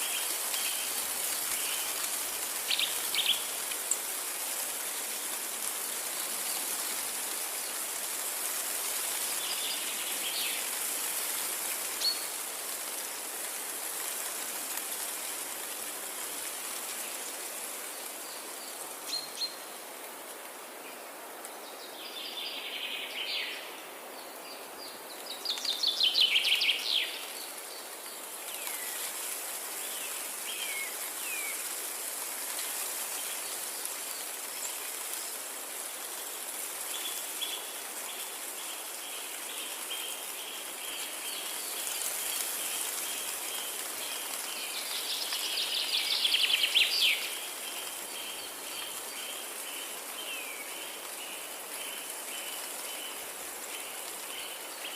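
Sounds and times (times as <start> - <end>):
steady rushing hiss: 0.0 - 54.9.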